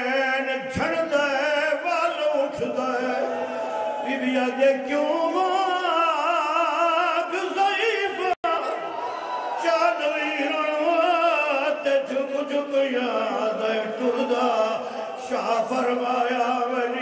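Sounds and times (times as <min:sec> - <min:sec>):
man chanting a sung lament: 0:00.0 - 0:08.8, 0:09.6 - 0:17.0.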